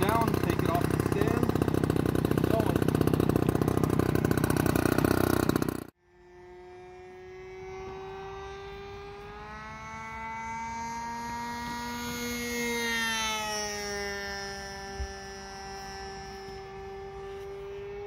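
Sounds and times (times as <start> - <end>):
propeller aircraft flying past: 0.0 - 18.0.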